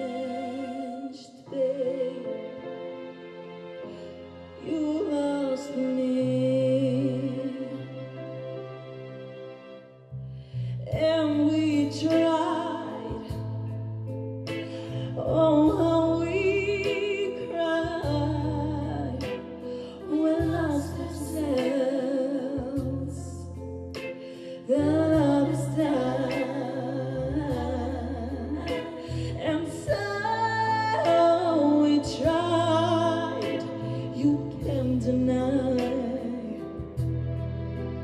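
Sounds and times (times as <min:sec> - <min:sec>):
woman singing a slow ballad: 0:00.0 - 0:02.8, 0:04.6 - 0:08.1, 0:10.7 - 0:37.1.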